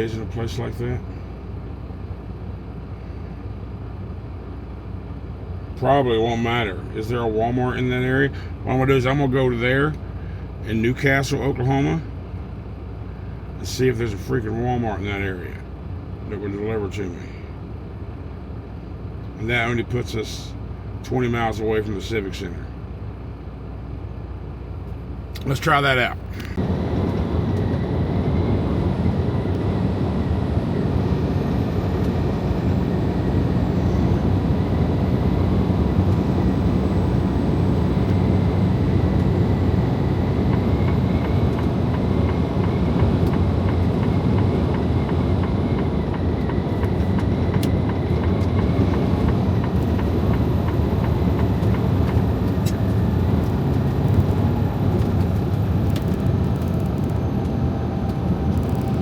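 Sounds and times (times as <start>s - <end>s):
truck engine drone: 0.0s - 59.0s.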